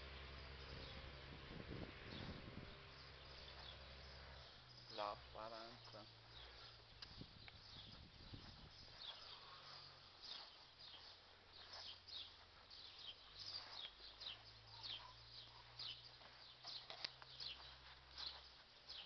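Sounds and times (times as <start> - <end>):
bird chirps: 2.1 - 19.0.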